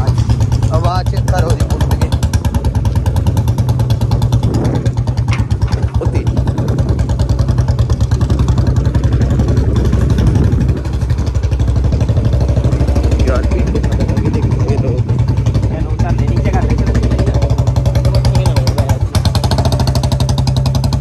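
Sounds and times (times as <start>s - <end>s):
motorcycle engine thumping: 0.0s - 21.0s.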